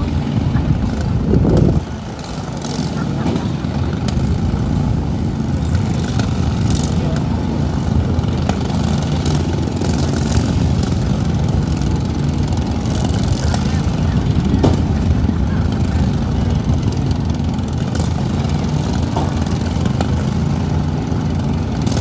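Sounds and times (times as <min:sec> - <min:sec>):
lawn mower engines droning: 0:00.0 - 0:22.0.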